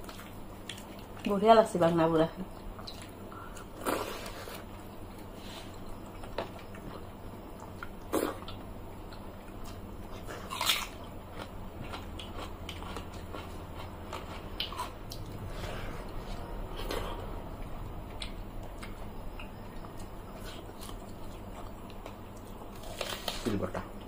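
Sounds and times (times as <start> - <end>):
wet chewing with clicks: 0.0 - 1.9, 2.5 - 5.0, 5.7 - 15.4, 16.1 - 23.4.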